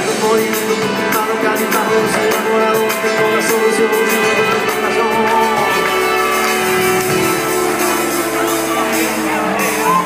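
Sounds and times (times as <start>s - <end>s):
amplified guitars: 0.0s - 10.0s
drums: 0.0s - 10.0s
hand percussion: 0.4s - 10.0s.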